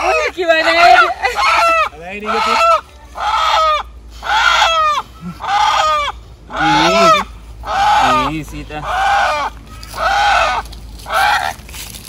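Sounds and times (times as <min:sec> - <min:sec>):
rooster squawking: 0:00.0 - 0:11.8.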